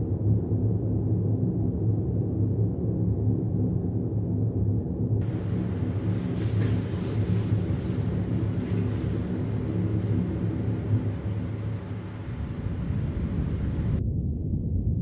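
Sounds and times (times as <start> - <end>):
low rumbling drone with hum: 0.0 - 15.0.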